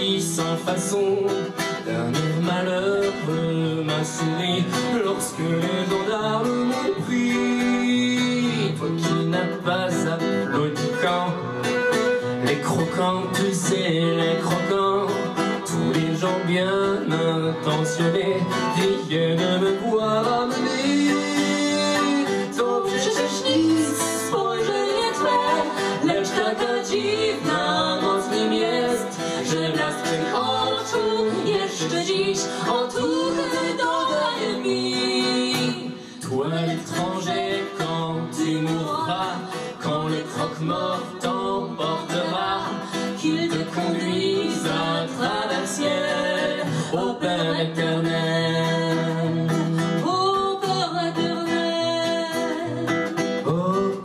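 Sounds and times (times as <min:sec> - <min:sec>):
accordion: 0:00.0 - 0:54.0
person singing: 0:00.0 - 0:54.0.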